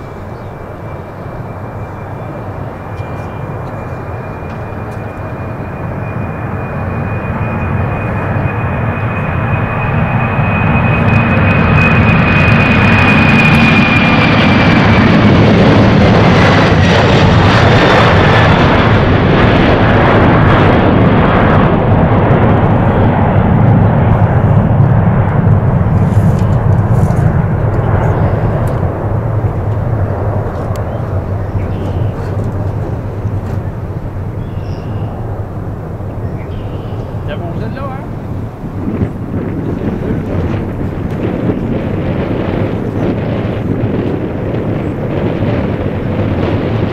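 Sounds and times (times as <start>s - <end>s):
high fan whine: 0.0s - 46.9s
jet engine roar: 0.0s - 46.9s.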